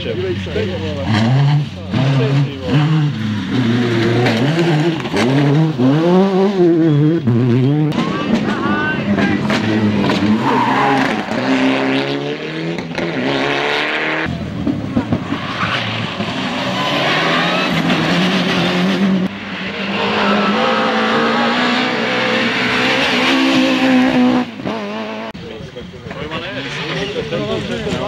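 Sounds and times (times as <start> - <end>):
rally car engines revving past: 0.0 - 28.0.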